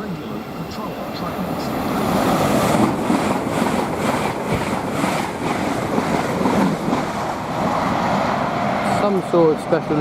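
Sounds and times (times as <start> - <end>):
train wheels on rail: 0.0 - 10.0.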